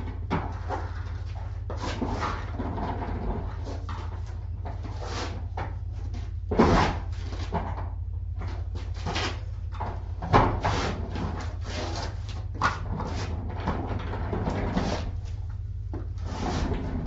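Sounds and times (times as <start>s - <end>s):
objects knocking and scraping: 0.0s - 17.0s
steady low hum: 0.0s - 17.0s.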